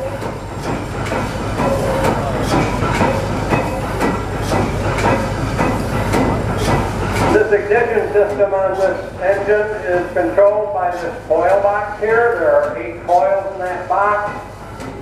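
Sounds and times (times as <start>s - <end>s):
gas engine rumbling with clacks: 0.0s - 15.0s.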